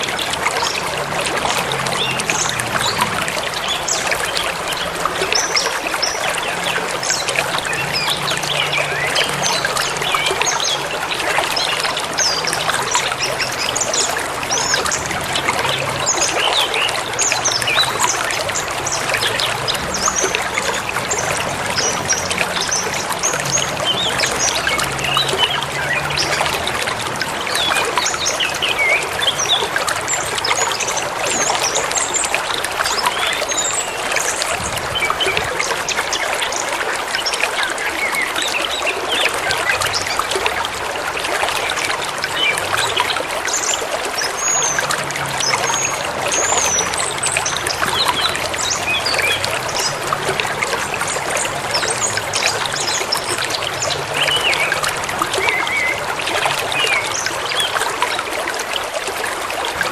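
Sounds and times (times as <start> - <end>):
river flowing and trickling: 0.0 - 59.9.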